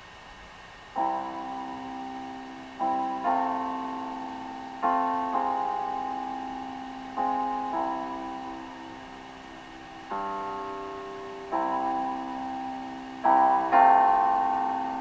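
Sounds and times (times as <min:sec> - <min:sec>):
slow piano chords: 0:00.9 - 0:15.0.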